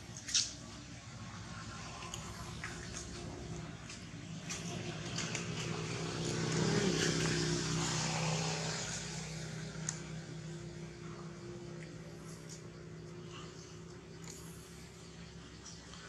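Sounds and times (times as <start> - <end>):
vehicle engine running: 1.1 - 16.0.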